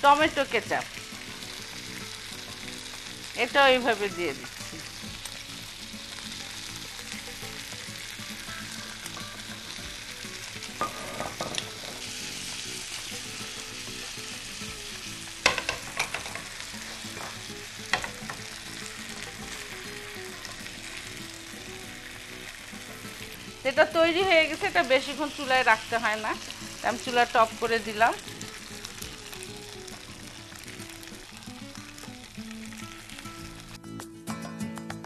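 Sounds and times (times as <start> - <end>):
skewers sizzling in frying pan: 0.0 - 33.8.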